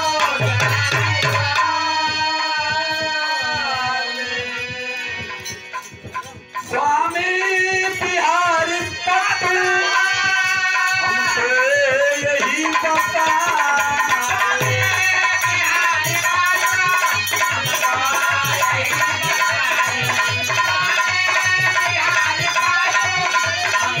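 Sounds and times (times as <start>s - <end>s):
dholak drum beat: 0.0s - 24.0s
harmonium: 0.0s - 24.0s
man singing into a microphone: 0.0s - 24.0s.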